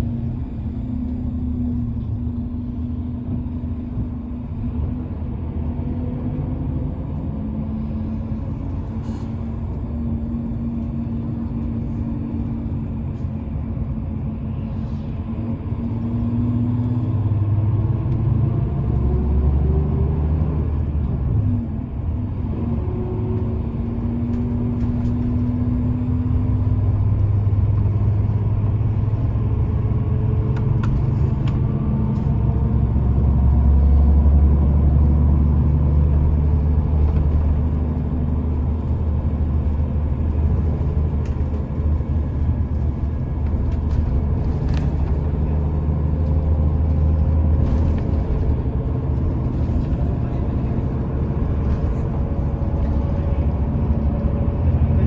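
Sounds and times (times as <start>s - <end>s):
passing vehicle engines: 0.0s - 55.0s
road traffic rumble: 0.0s - 55.0s.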